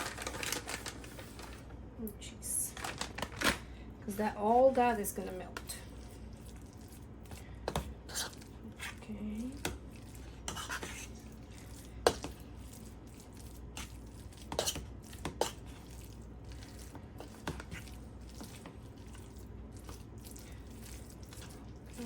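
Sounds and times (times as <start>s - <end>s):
soft wet mixing: 3.0s - 22.0s.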